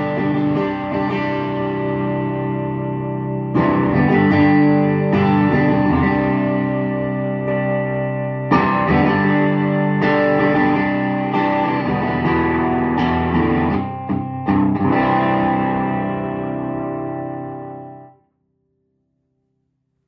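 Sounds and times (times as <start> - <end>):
electric guitar chords ringing: 0.0 - 18.2.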